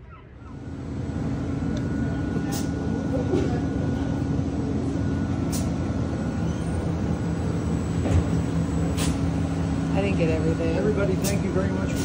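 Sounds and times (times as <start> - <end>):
laundry machines humming: 0.0 - 12.0.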